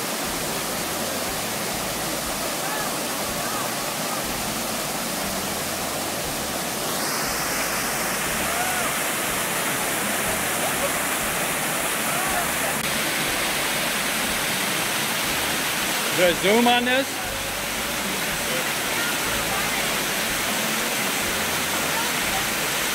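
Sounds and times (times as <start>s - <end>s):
waterfall rushing over boulders: 0.0s - 22.9s.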